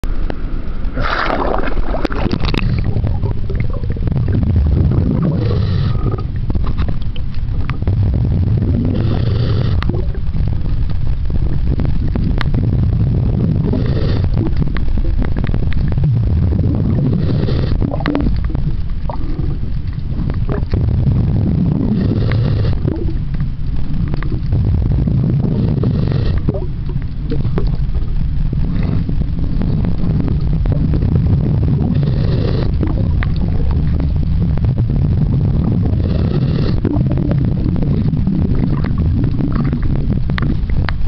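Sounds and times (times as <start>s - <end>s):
underwater water gurgling: 0.0s - 41.0s.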